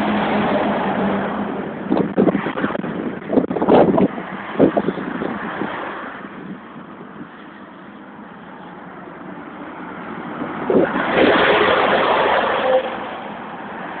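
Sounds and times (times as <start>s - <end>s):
lorry passing close by: 0.0s - 6.8s, 8.8s - 14.0s
car traffic: 0.0s - 14.0s.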